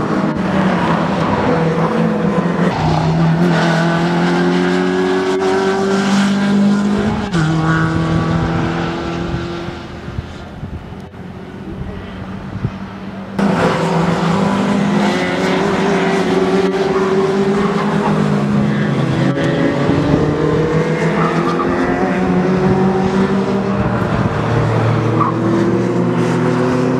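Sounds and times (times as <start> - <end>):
race car engines accelerating: 0.0 - 26.9.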